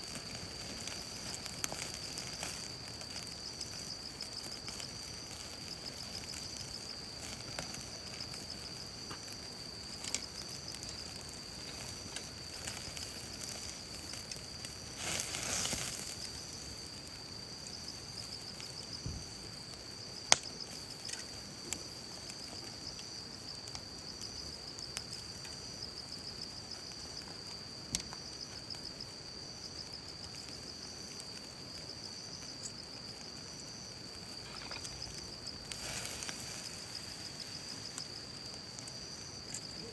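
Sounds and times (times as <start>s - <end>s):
fire crackling and popping: 0.0s - 39.9s
high insect trilling: 0.0s - 39.9s.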